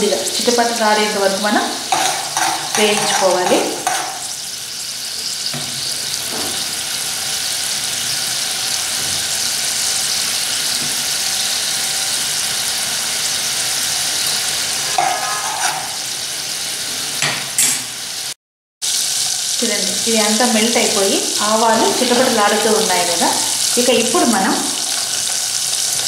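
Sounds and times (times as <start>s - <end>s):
oil sizzling and bubbling: 0.0s - 26.0s.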